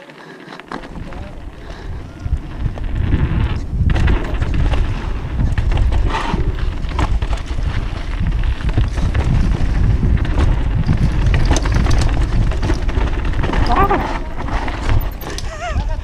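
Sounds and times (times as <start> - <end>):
bike rattling and clicking: 0.0 - 16.0
tyres rolling over dirt: 0.0 - 16.0
wind buffeting microphone: 0.8 - 16.0.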